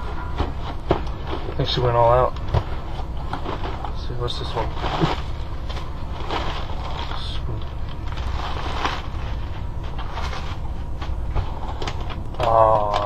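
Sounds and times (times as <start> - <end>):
snack bags rustling and crinkling: 0.0 - 13.0
steady low hum: 0.0 - 13.0.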